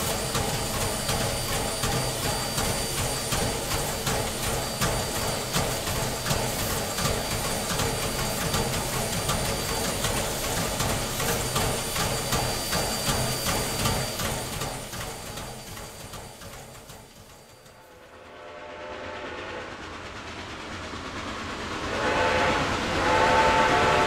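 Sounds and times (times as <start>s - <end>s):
steam train clatter: 0.0s - 24.0s.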